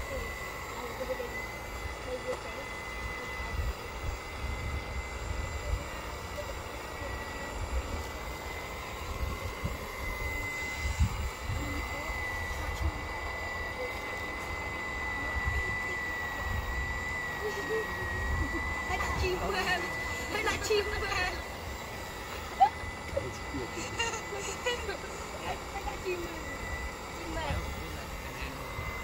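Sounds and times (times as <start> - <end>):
model excavator motor whine: 0.0 - 29.0.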